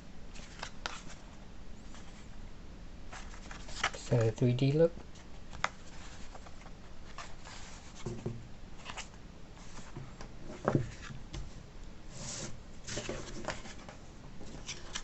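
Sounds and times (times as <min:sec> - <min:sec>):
paper rustling and sliding: 0:00.3 - 0:02.3, 0:03.1 - 0:04.3, 0:05.1 - 0:11.2, 0:12.1 - 0:15.0.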